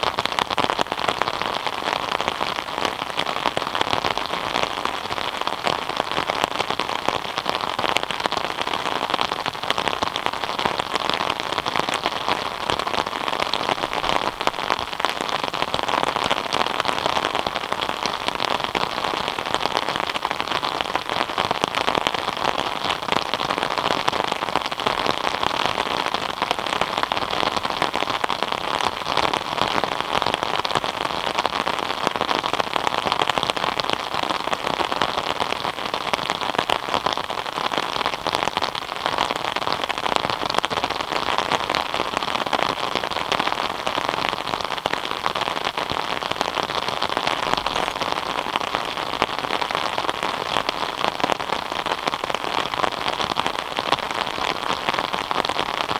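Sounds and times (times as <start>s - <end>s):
rain patter on a surface: 0.0s - 55.9s.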